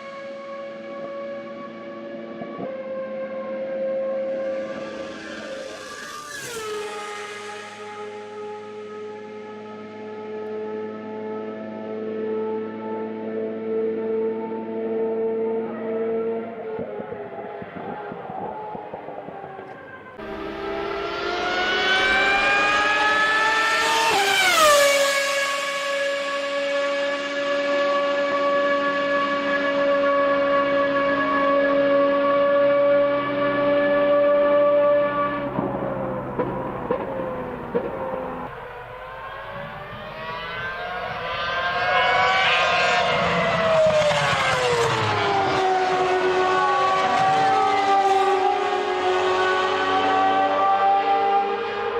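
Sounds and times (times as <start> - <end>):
race car engine passing by: 0.0 - 51.9.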